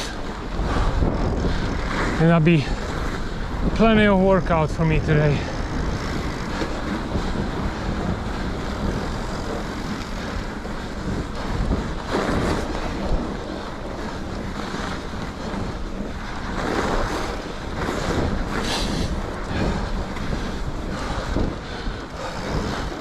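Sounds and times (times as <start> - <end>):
bike tyres rolling on snow: 0.0 - 23.0
wind buffeting microphone: 0.0 - 23.0.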